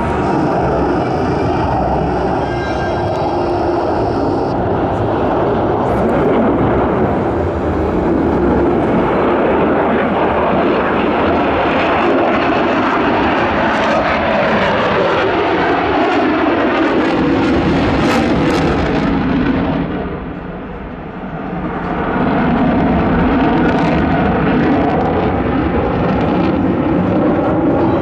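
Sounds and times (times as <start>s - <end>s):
fighter jet roar: 0.0s - 28.0s.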